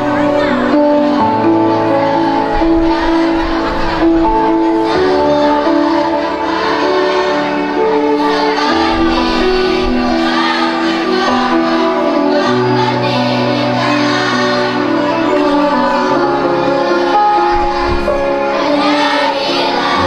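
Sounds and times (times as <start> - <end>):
children's choir singing: 0.0 - 20.0
held accompaniment chords: 0.0 - 20.0.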